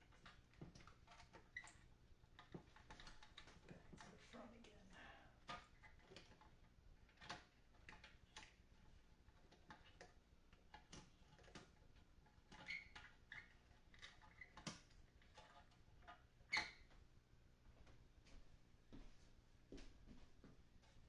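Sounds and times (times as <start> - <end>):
faint clicks and light knocks: 0.0 - 4.4, 5.4 - 17.1, 17.7 - 21.0.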